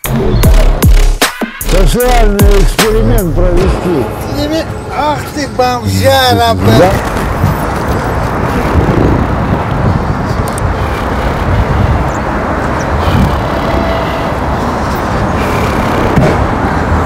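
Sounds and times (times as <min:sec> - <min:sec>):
street traffic roar: 0:00.0 - 0:17.0.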